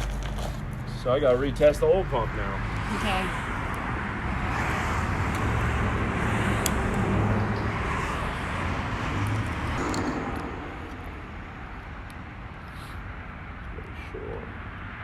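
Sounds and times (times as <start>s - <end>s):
vehicle going by: 0.6s - 12.9s.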